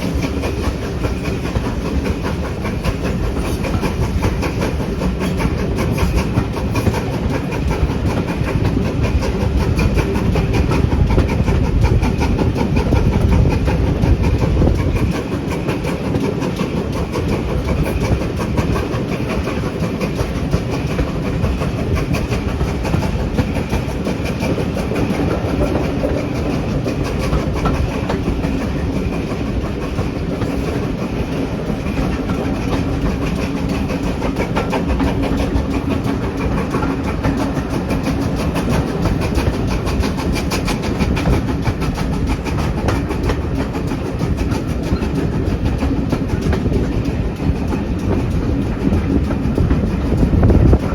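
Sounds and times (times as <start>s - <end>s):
heavy low train rumble: 0.0s - 50.9s
train wheels clattering on track: 0.0s - 50.9s.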